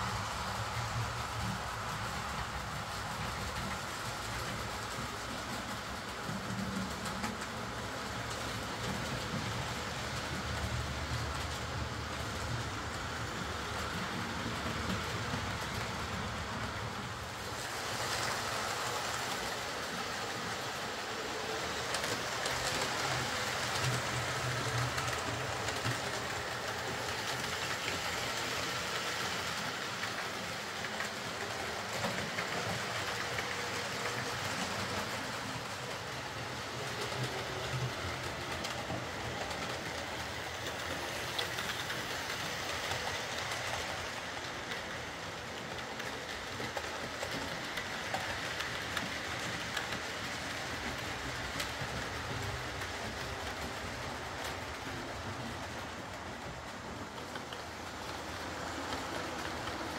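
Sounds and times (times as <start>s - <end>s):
wheels clattering on rails: 0.0s - 59.9s.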